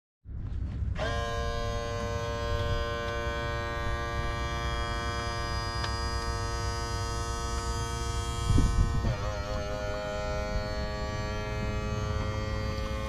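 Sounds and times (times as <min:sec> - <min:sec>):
outboard motor running: 0:01.0 - 0:13.0.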